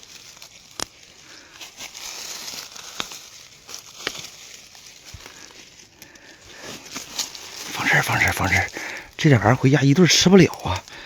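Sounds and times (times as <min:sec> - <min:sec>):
stems snapping: 0:00.0 - 0:07.7, 0:08.3 - 0:11.0
leaves rustling and crinkling: 0:00.0 - 0:11.0.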